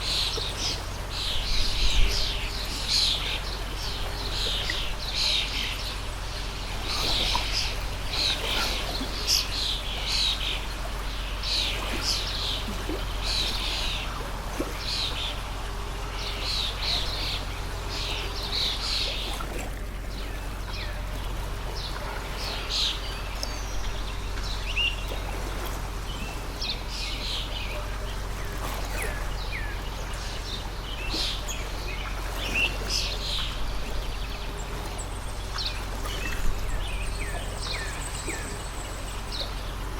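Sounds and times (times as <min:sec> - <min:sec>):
songbirds chirping: 0:00.0 - 0:39.9
stream flowing: 0:00.0 - 0:39.9.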